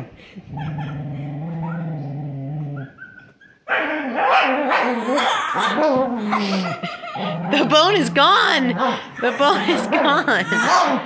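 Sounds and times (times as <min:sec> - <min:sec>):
dog growling: 0:00.0 - 0:03.2, 0:03.8 - 0:11.0
dog whining: 0:00.5 - 0:11.0.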